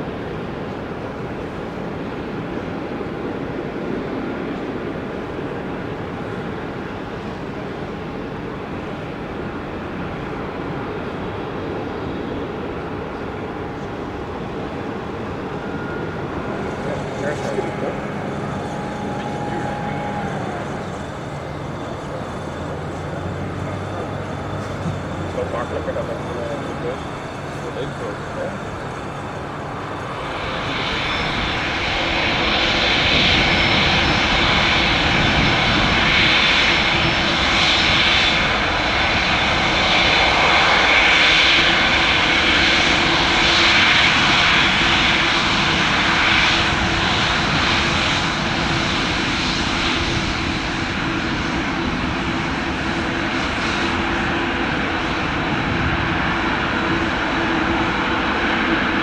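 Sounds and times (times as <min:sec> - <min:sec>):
jet airliner taxiing: 0:00.0 - 0:59.0.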